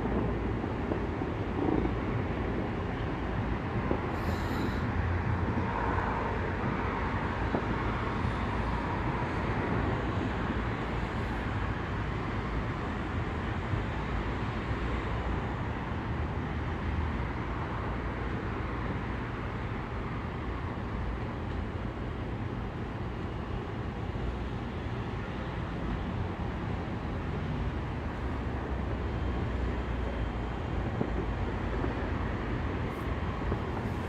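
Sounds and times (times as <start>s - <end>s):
distant city traffic rumble: 0.0s - 34.0s.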